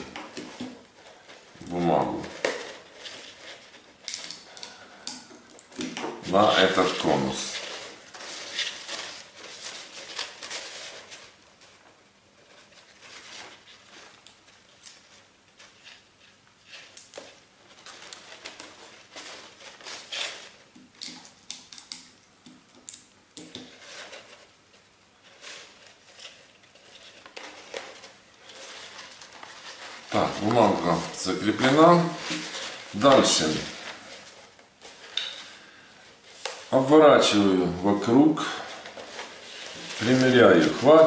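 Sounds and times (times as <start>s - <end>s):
crepe paper rustling and crinkling: 0.0s - 41.0s.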